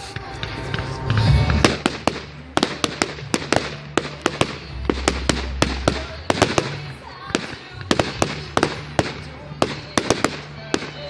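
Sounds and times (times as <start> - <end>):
fireworks cracks and bangs: 0.0 - 11.0.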